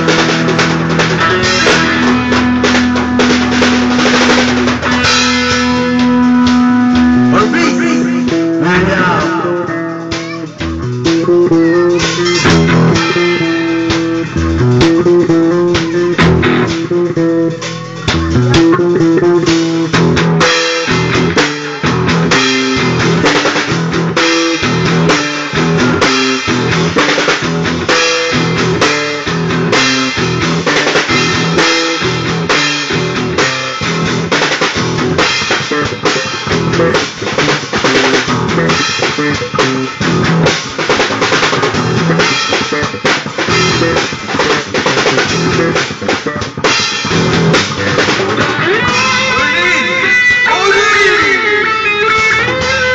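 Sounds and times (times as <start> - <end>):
bass guitar: 0.0 - 52.9
drum kit beat with rimshots: 0.0 - 52.9
electric guitar: 0.0 - 52.9.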